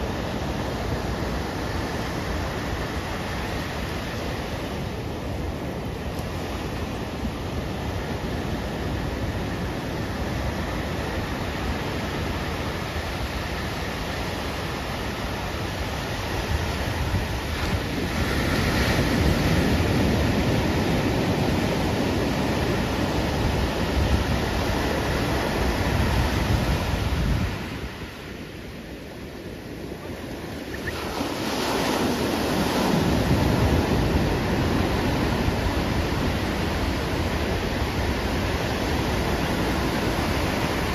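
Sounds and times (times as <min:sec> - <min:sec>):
ocean surf breaking: 0:00.0 - 0:40.9
wind rumbling on microphone: 0:00.0 - 0:40.9.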